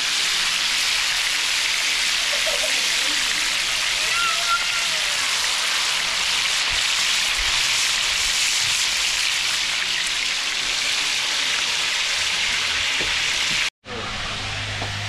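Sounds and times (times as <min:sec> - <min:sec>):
fish frying in oil: 0:00.0 - 0:13.7.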